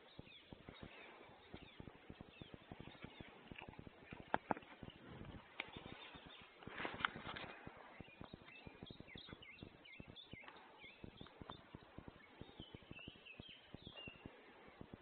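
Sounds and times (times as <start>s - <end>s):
bird chirping: 0.0s - 15.0s
faint low clicks and thumps: 0.0s - 15.0s.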